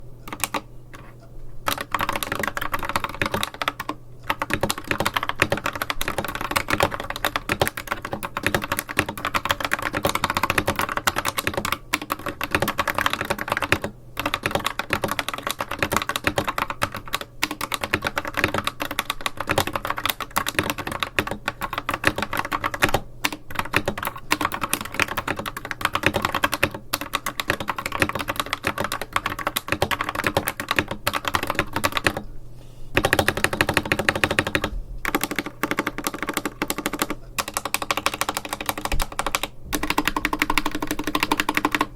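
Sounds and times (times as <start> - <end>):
fast typing on mechanical keyboard: 0.3 - 1.1, 1.7 - 32.2, 33.0 - 41.9.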